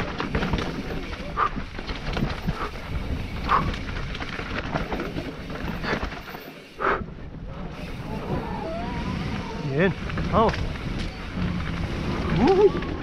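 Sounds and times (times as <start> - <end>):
bike rattling and knocking: 0.0 - 13.0
tyres rumbling over dirt: 0.0 - 13.0.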